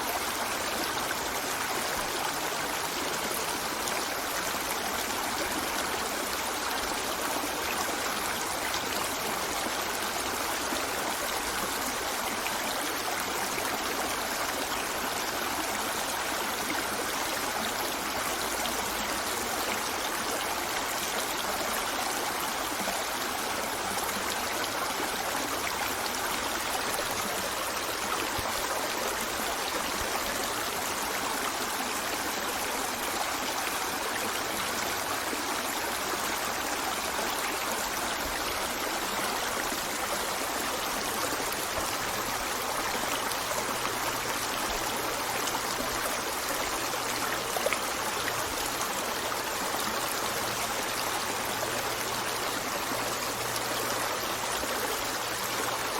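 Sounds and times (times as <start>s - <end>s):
river flowing over stones: 0.0s - 55.9s.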